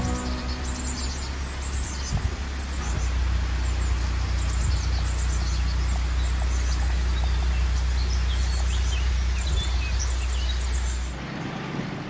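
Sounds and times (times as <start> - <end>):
small birds chirping: 0.0 - 11.2
boat engine humming: 0.0 - 12.0.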